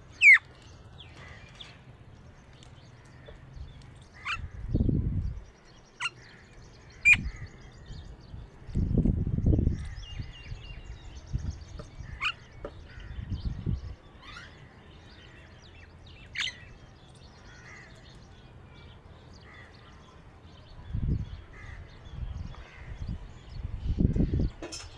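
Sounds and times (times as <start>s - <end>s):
wild birds chirping: 0.0s - 24.9s.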